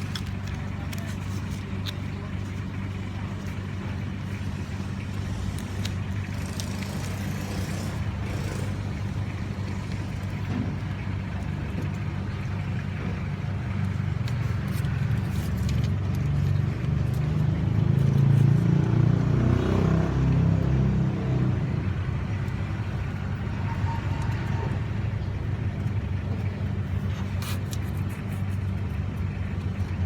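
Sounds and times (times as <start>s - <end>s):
car engine idling: 0.0s - 18.6s, 20.3s - 30.0s.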